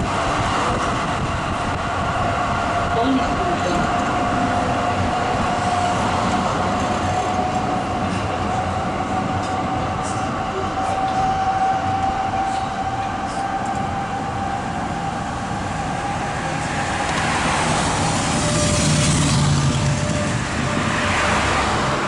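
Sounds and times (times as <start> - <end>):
tram running on track: 0.0 - 22.0.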